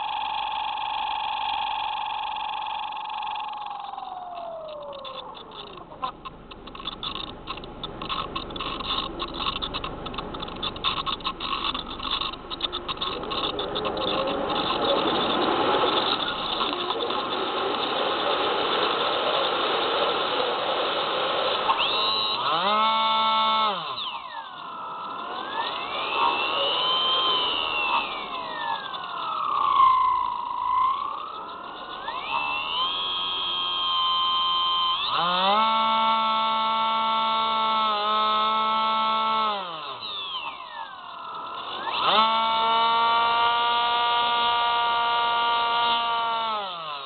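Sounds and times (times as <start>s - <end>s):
electric motor humming: 0.0s - 47.0s
motor whining tone: 0.0s - 47.0s.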